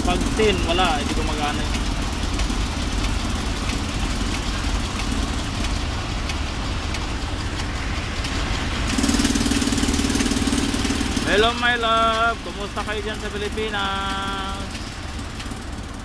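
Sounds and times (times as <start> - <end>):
diesel engine idling: 0.0 - 16.0
steady loud hum: 0.0 - 16.0.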